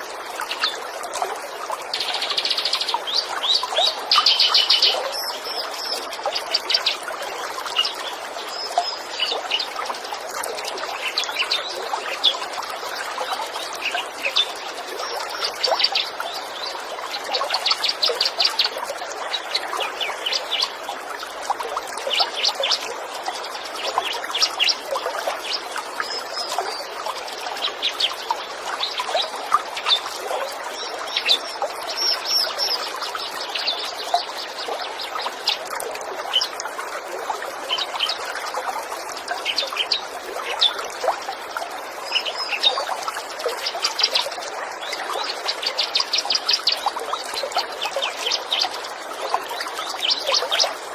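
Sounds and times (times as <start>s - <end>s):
trickle of running water: 0.0s - 50.9s.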